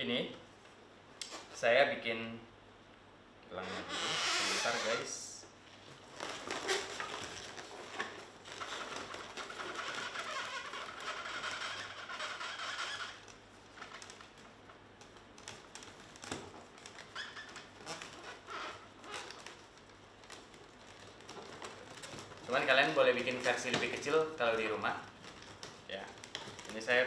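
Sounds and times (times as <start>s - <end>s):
balloons squeaking and rubbing: 3.6s - 27.0s.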